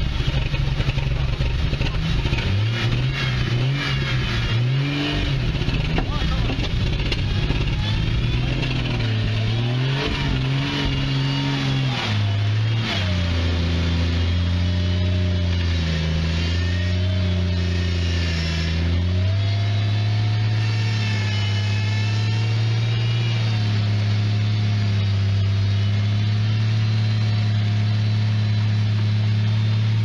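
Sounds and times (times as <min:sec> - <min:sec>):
vehicle engine running under load: 0:00.0 - 0:30.0.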